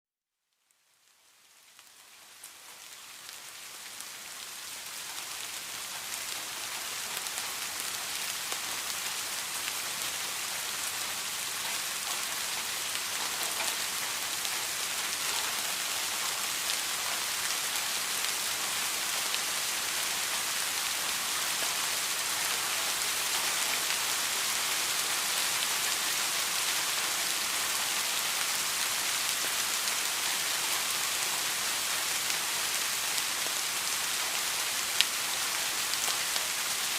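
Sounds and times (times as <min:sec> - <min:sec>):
steady rain falling: 0:00.5 - 0:36.9.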